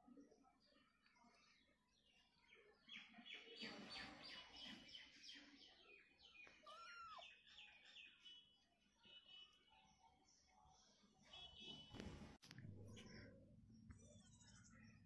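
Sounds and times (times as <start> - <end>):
faint small birds chirping: 0.0 - 15.0.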